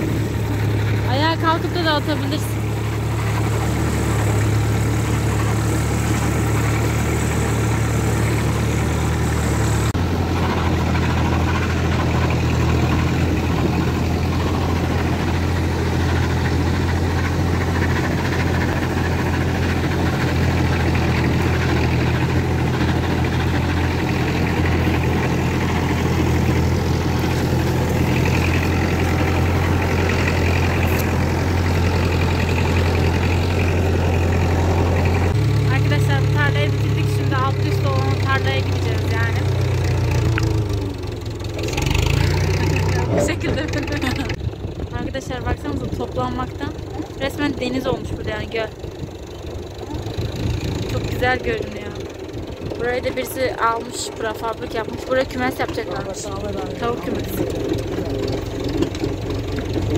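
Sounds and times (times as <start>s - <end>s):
tractor engine humming: 0.0s - 59.9s.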